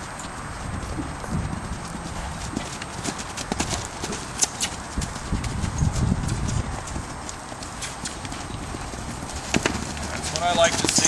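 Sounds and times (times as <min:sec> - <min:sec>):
hoofbeats on dirt: 0:00.0 - 0:11.0.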